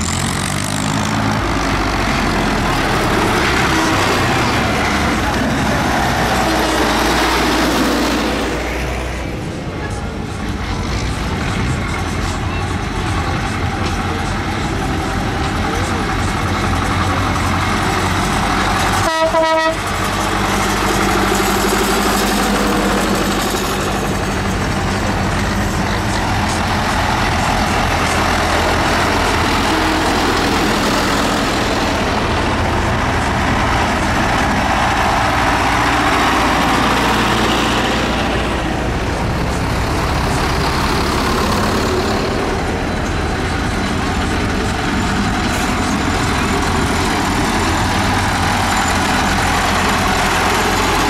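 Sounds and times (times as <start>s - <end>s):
tractor engines running: 0.0s - 51.0s.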